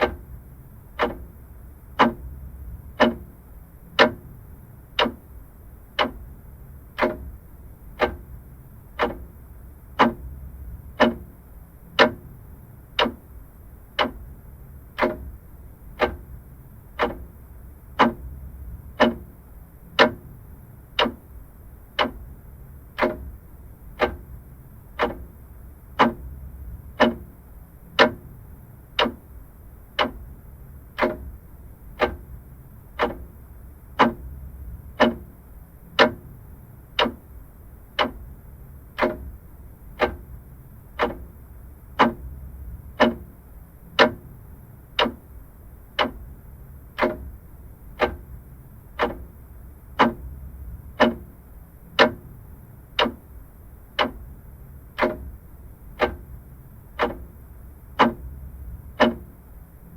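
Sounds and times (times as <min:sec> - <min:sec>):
mechanical clock ticking: 0:00.0 - 0:59.9.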